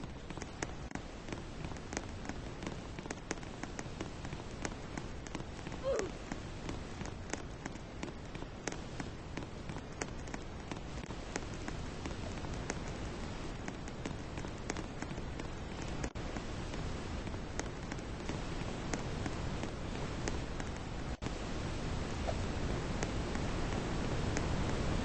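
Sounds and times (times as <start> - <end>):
rain falling: 0.0 - 25.0
raindrops ticking on a surface: 0.0 - 25.0.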